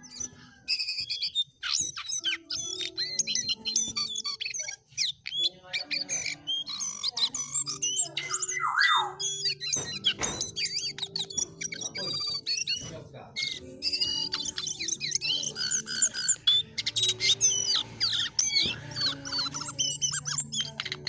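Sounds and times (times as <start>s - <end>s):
bird singing chirps and whistles: 0.0s - 21.0s.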